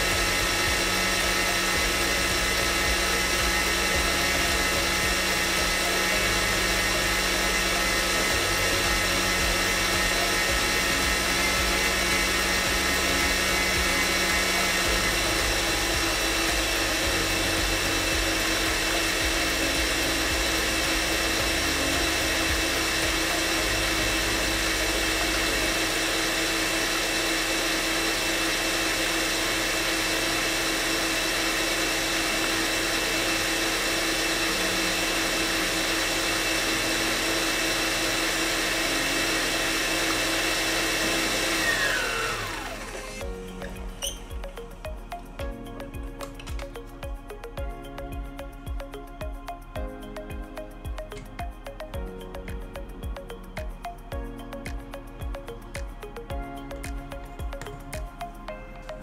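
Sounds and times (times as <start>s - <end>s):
electric kitchen mixer whirring: 0.0s - 53.8s.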